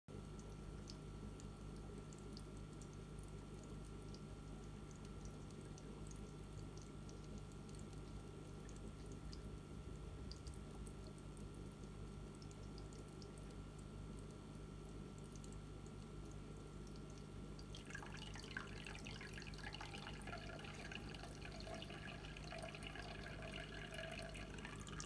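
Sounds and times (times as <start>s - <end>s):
aquarium water trickling: 0.1s - 25.0s
tiny drip and bubble ticks: 0.1s - 25.0s
steady low hum: 0.2s - 25.0s.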